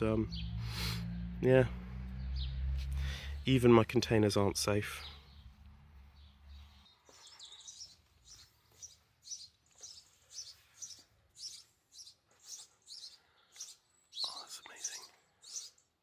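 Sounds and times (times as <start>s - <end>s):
sparrow chirping: 0.0s - 1.0s, 2.2s - 3.8s, 4.4s - 16.0s.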